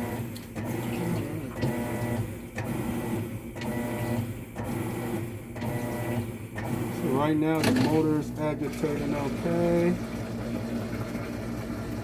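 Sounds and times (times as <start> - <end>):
washing machine agitating: 0.0 - 12.0.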